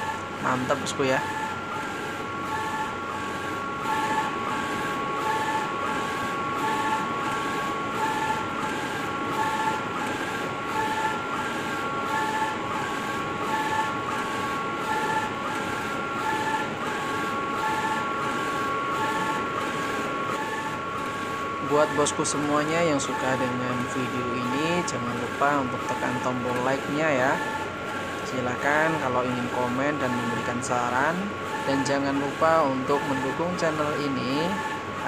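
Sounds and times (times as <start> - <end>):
fan noise: 0.0 - 35.0
printer whine: 0.0 - 35.0.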